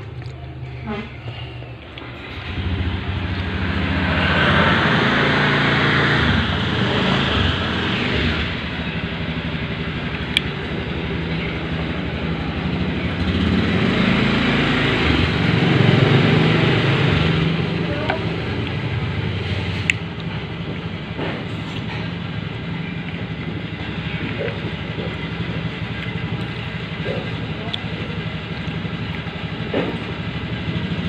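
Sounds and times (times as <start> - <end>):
vehicle engines running: 0.0 - 31.0.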